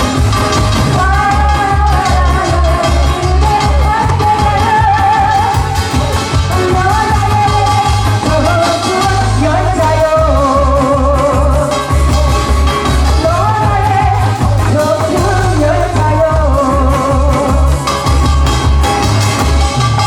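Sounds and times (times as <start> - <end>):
amplified singing with vibrato: 0.0 - 18.4
backing track with pulsing bass: 0.0 - 20.0.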